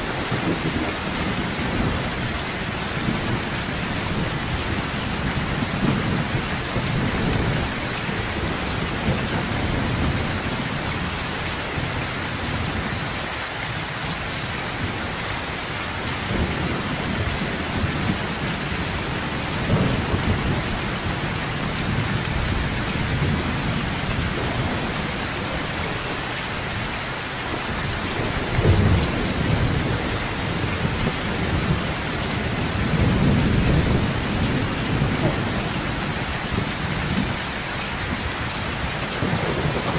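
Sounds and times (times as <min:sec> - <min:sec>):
heavy rain pouring: 0:00.0 - 0:39.9
thunder rumbling: 0:00.1 - 0:13.0, 0:16.2 - 0:39.9.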